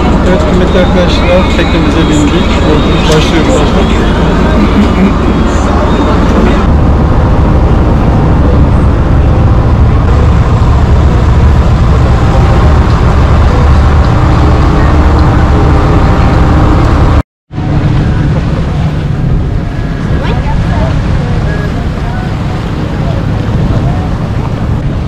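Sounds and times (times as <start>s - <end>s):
boat engine rumbling: 0.0s - 25.0s.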